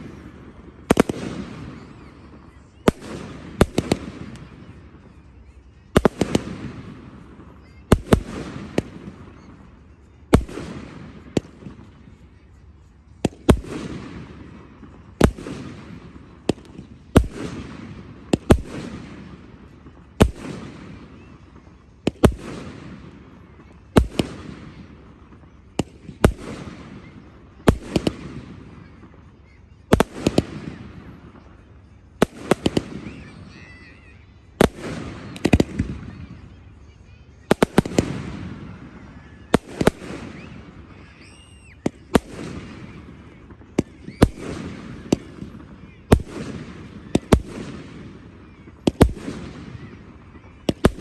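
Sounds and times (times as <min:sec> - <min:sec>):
fireworks bursting with bangs: 0:00.0 - 0:51.0.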